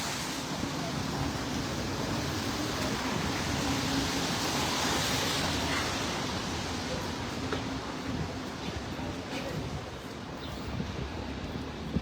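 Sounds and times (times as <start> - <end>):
tyres hissing on wet pavement: 0.0 - 10.0.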